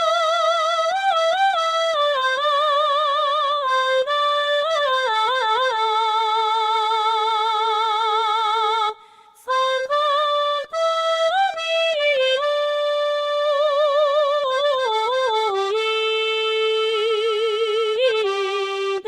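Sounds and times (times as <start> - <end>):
accordion accompaniment: 0.0 - 19.0
synthesized female singing voice: 0.0 - 19.0.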